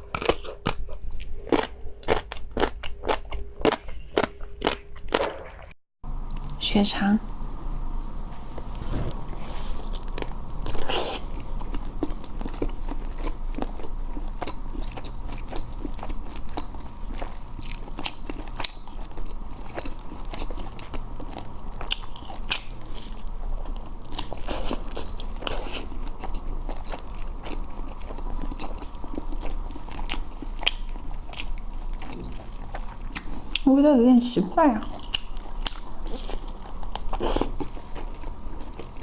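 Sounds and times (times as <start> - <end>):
person chewing wetly: 0.0 - 5.8, 9.7 - 33.7, 34.8 - 39.0.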